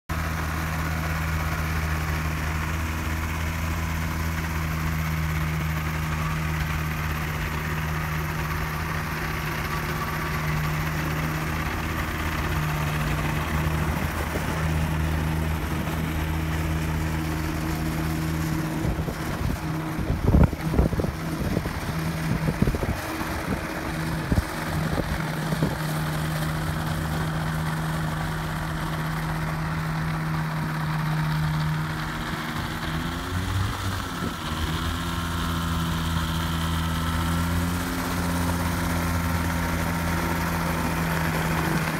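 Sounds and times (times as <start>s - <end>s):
ultralight engine idling: 0.1s - 41.9s.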